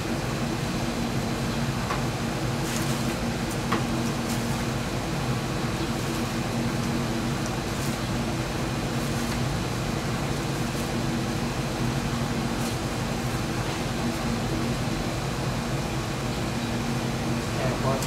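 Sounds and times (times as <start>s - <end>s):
air conditioner compressor hum: 0.0s - 18.0s.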